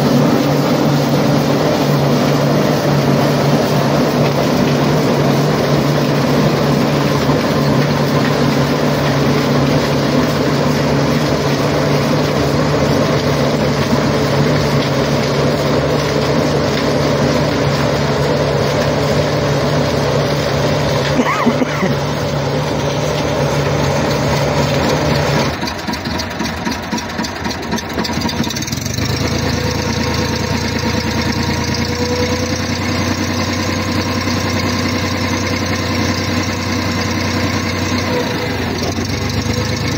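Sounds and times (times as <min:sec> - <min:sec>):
harvesting machinery running: 0:00.0 - 0:39.9
tractor diesel engine: 0:00.0 - 0:39.9.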